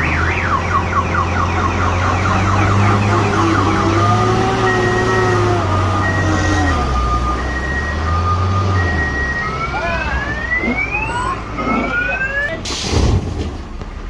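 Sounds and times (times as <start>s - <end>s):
two-tone siren-like alarm: 0.0s - 12.6s
heavy vehicle engine running: 0.0s - 14.0s.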